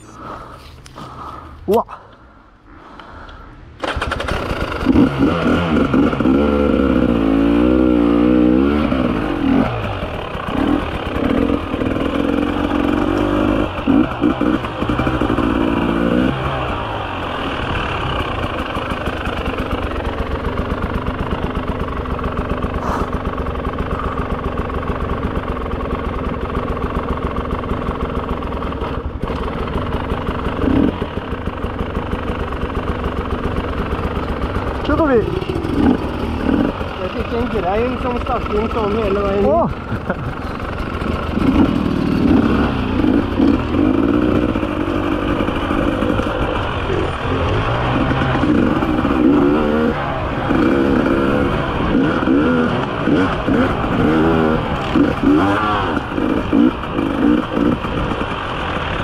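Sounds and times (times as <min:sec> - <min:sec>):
motorcycle engine revving: 0:03.8 - 0:59.0.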